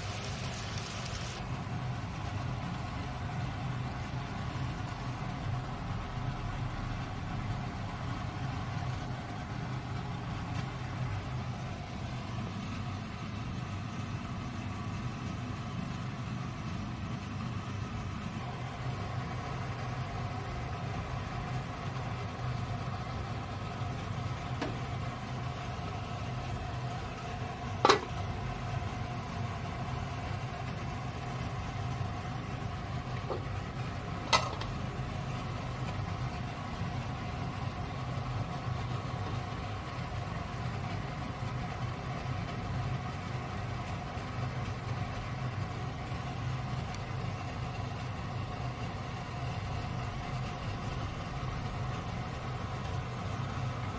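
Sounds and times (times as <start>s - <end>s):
kitchen fan humming: 0.0s - 53.9s.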